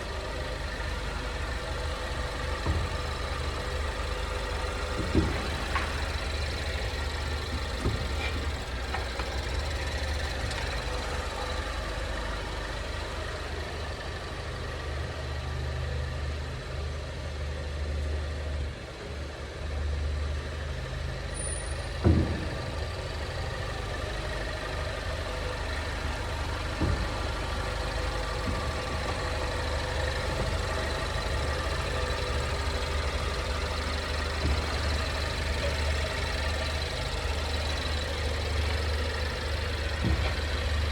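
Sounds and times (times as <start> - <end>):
chassis knocking: 0.0 - 14.4, 21.8 - 40.9
car engine and road hum: 0.0 - 40.9.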